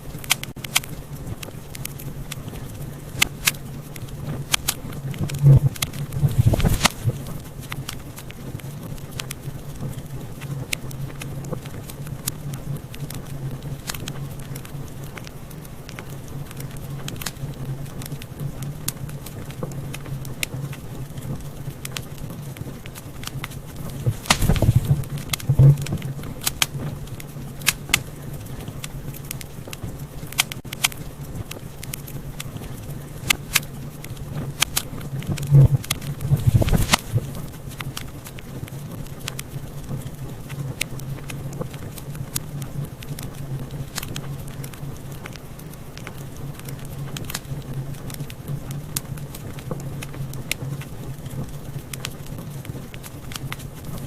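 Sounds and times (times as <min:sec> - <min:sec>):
low steady rumble: 0:00.0 - 0:54.0
wood fire crackling and popping: 0:00.0 - 0:54.0.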